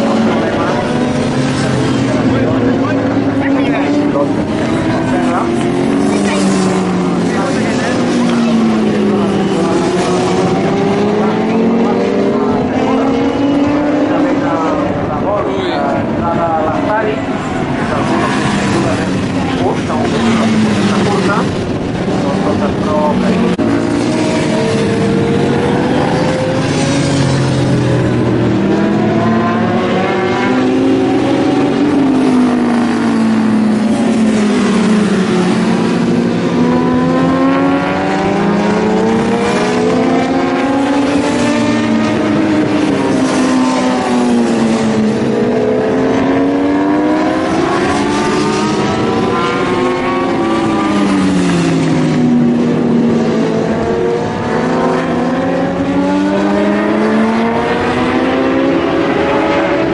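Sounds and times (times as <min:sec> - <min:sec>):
racing motorcycle engines: 0:00.0 - 0:59.9.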